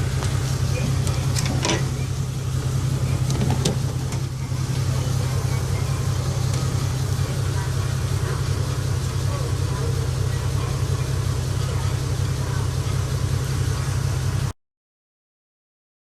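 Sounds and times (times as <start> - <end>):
low mechanical hum: 0.0 - 14.6.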